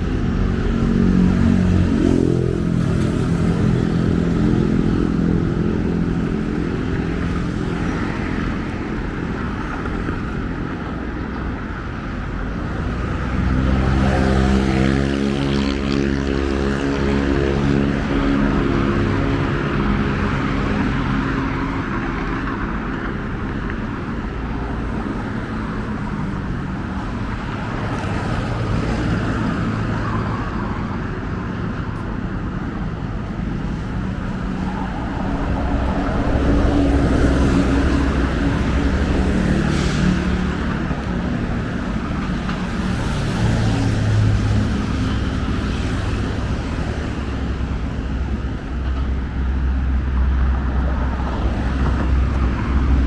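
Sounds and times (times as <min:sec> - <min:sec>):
heavy engine noise: 0:00.0 - 0:53.0
road traffic passing: 0:00.0 - 0:53.0.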